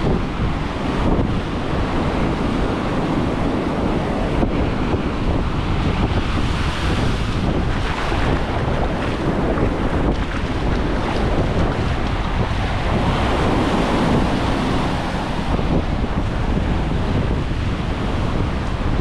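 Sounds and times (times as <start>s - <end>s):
surf breaking on sand: 0.0s - 19.0s
wind buffeting microphone: 0.0s - 19.0s.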